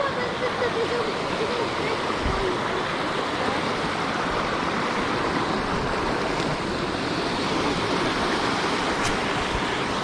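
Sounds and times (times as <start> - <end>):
fast-flowing water rushing: 0.0 - 10.0.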